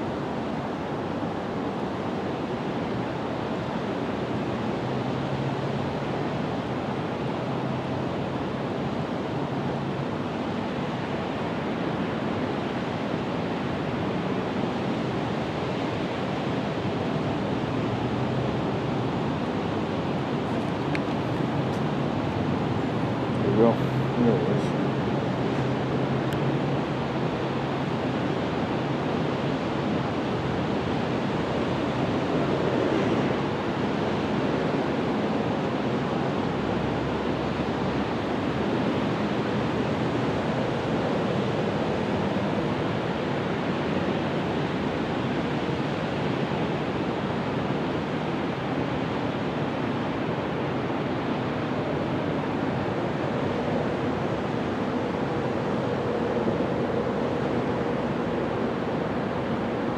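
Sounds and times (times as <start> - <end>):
rushing outdoor background noise: 0.0 - 59.9.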